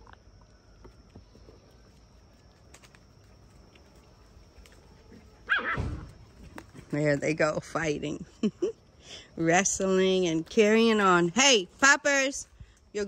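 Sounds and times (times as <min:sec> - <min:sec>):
low outdoor background: 0:00.0 - 0:13.0
puppies scuffling on dirt: 0:00.3 - 0:07.8, 0:09.6 - 0:13.0.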